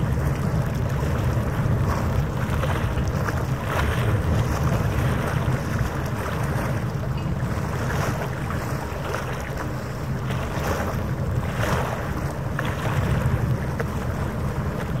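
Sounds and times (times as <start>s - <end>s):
low drone of boat engines: 0.0s - 15.0s
wind rumble on microphone: 0.0s - 15.0s.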